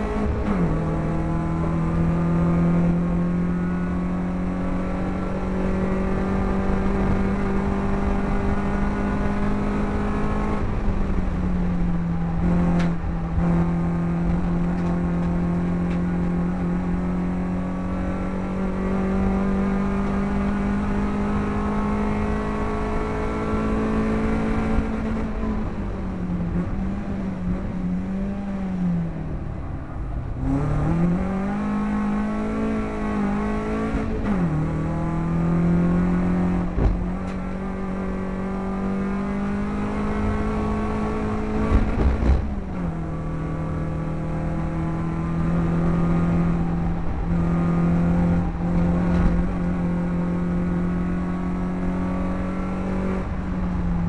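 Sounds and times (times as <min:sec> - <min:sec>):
race car engine at high revs: 0:00.0 - 0:54.0
road and wind noise: 0:00.0 - 0:54.0.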